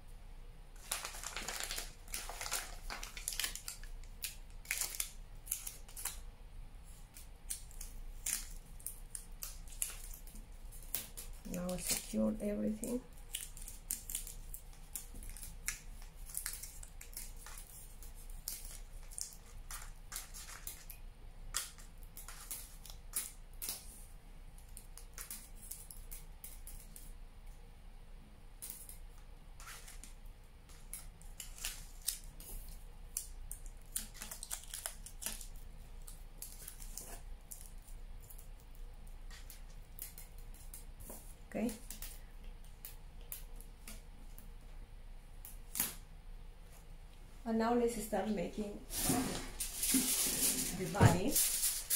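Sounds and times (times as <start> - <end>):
aluminium foil crinkling: 0.8 - 6.3, 6.9 - 27.2, 28.6 - 44.5, 48.9 - 51.9.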